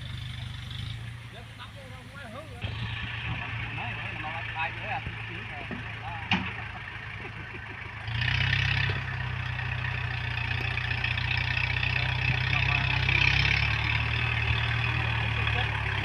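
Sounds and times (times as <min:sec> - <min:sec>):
heavy diesel engine droning: 0:00.0 - 0:16.0.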